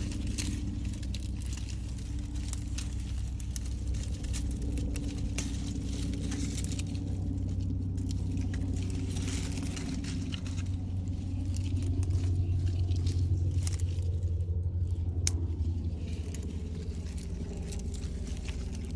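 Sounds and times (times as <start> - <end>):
low machine hum: 0.0 - 18.9
netting and grapes rustling: 0.0 - 18.9.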